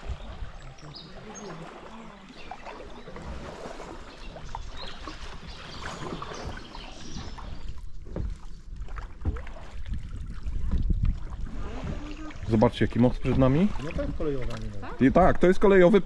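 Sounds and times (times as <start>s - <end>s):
paddle dipping into water: 0.0s - 15.7s
water splashing and dripping: 0.0s - 15.8s.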